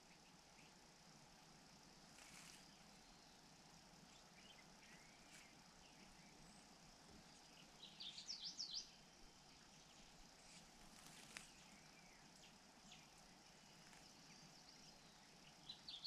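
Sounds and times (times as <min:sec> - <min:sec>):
outdoor background noise: 0:00.0 - 0:16.0
bird chirping: 0:02.6 - 0:16.0.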